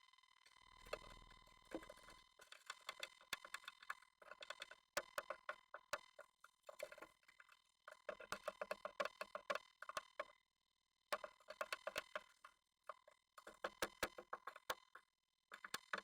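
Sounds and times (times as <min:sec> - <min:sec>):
bird tapping and scratching on wood: 0:00.9 - 0:10.3, 0:11.1 - 0:16.0.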